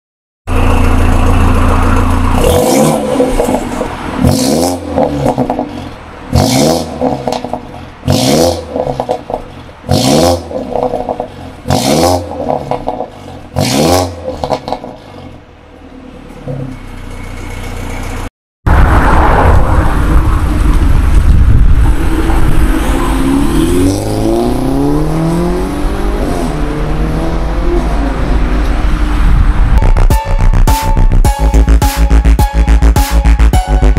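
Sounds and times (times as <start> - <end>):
car engine idling and revving: 0.5 - 33.9.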